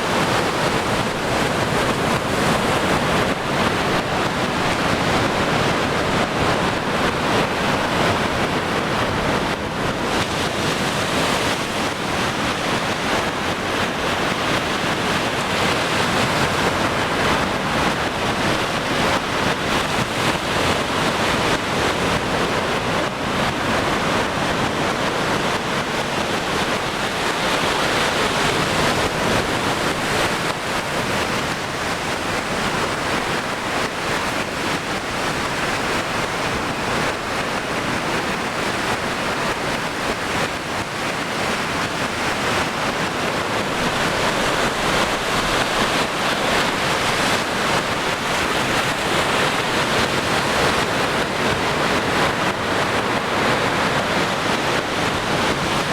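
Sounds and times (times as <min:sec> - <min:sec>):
sea waves washing ashore: 0:00.0 - 0:55.9.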